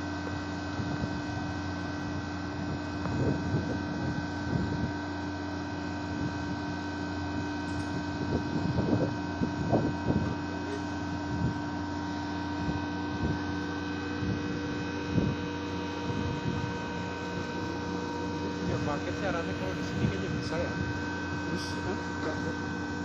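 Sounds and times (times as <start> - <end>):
excavator diesel engine idling: 0.0 - 23.0.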